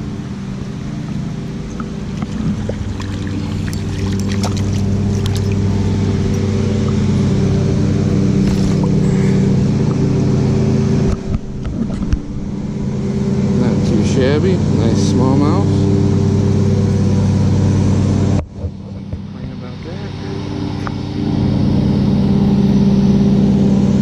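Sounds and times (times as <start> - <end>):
engine hum: 0.0 - 24.0.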